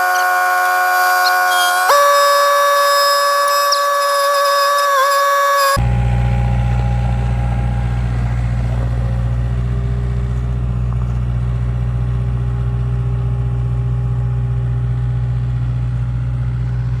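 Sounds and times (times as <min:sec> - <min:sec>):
skid steer engine running: 0:00.0 - 0:17.0.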